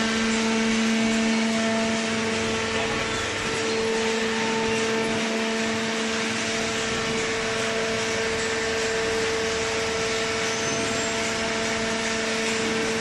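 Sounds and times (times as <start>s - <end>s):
hydraulic press humming and whining: 0.0s - 13.0s.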